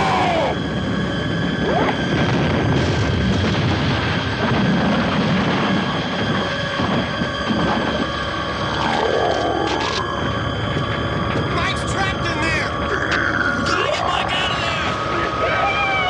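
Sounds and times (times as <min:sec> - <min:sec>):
loud low rumble: 0:00.0 - 0:16.0
music: 0:00.0 - 0:16.0.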